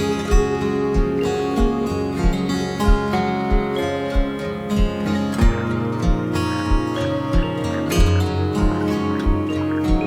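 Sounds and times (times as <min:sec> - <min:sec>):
steady low beat: 0:00.0 - 0:10.0
strummed acoustic guitar: 0:00.0 - 0:10.0.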